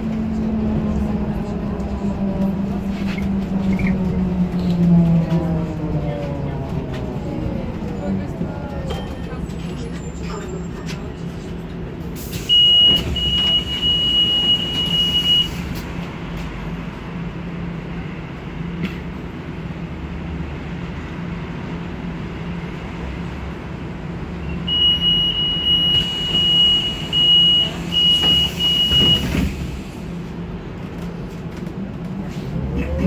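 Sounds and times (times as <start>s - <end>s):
road noise: 0.0s - 33.0s
trolleybus motor hum: 0.0s - 33.0s.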